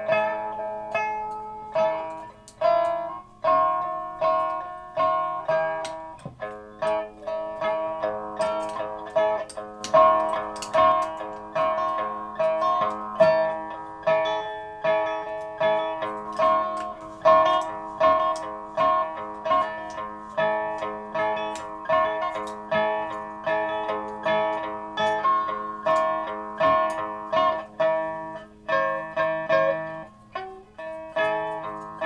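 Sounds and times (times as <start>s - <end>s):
plucked string instrument: 0.0s - 32.0s.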